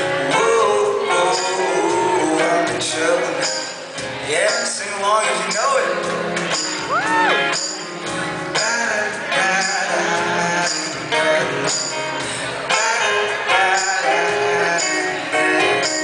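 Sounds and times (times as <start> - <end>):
strummed acoustic guitar: 0.0 - 16.0
jingling percussion: 1.1 - 2.7, 3.4 - 16.0.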